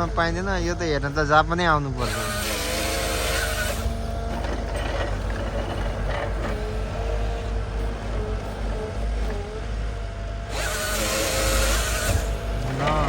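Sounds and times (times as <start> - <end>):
diesel dozer engine: 0.0 - 13.0.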